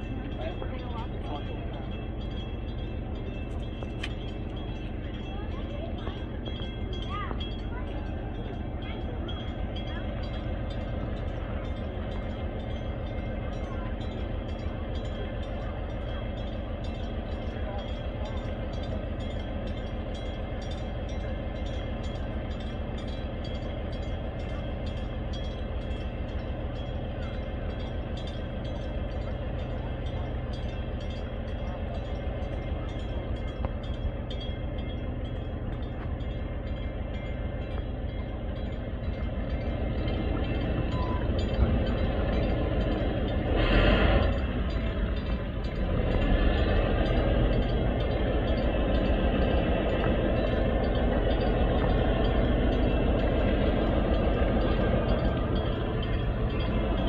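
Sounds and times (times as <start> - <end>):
tugboat diesel engine throbbing: 0.0 - 57.0.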